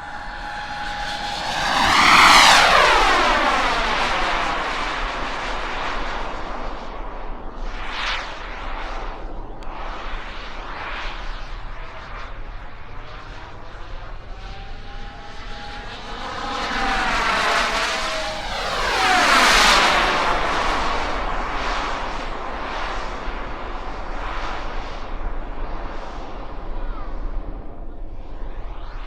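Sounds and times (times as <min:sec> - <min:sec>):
model jet turbine whining: 0:00.0 - 0:28.9.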